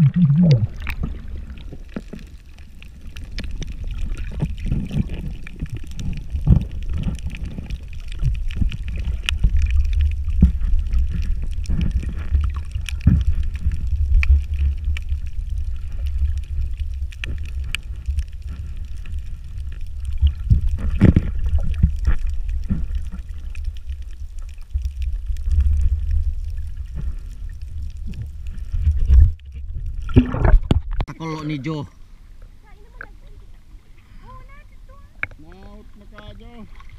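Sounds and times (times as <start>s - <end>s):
underwater rumble of moving water: 0.0s - 36.9s.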